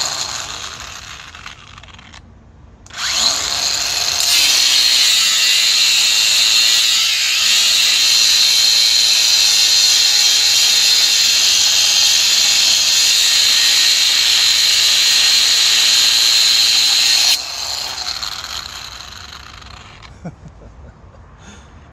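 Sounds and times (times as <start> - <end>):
angle grinder cutting steel: 0.0 - 2.2, 2.9 - 20.1
grinder winding down: 0.0 - 2.2, 2.9 - 20.1.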